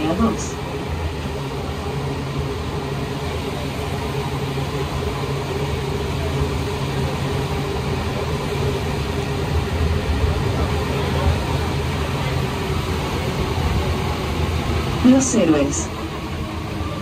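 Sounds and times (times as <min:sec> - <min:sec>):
metro car running noise: 0:00.0 - 0:17.0.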